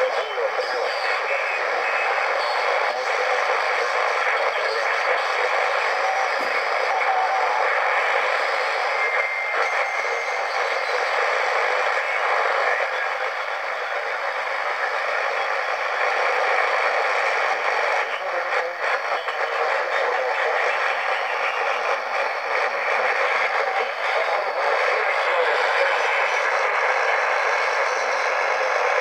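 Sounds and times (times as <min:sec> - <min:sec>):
radio crackles: 0:00.0 - 0:29.0
radio static hiss: 0:00.0 - 0:29.0.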